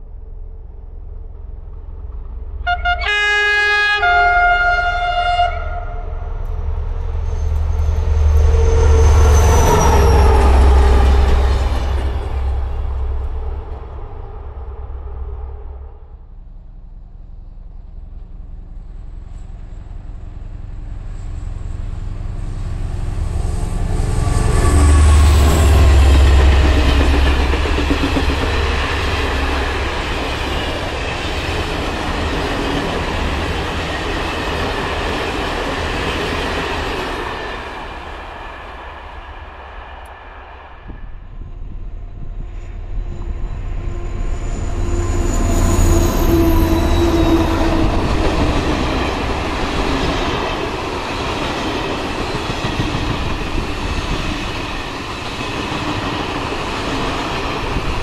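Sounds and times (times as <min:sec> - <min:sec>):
diesel locomotive engine: 0:00.0 - 0:58.0
second diesel train approaching: 0:00.0 - 0:58.0
train coaches rolling past: 0:00.0 - 0:58.0.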